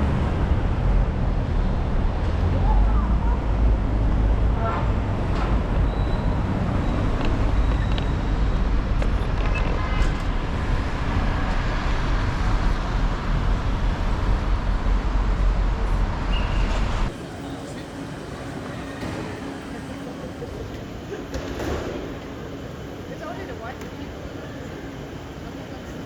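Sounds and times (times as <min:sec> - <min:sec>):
moving vehicle rumble: 0:00.0 - 0:21.1.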